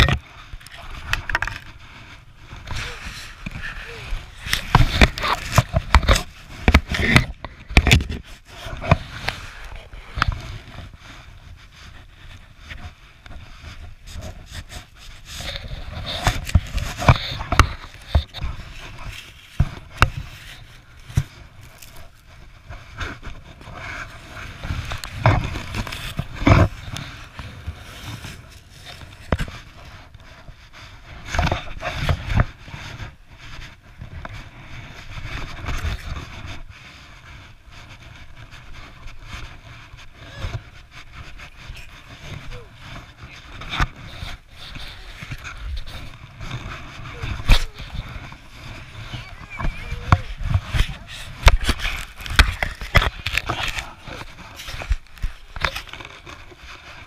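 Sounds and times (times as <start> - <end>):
plastic sled scraping over snow: 0.0 - 57.0
rustle of snow and fabric: 0.2 - 57.0.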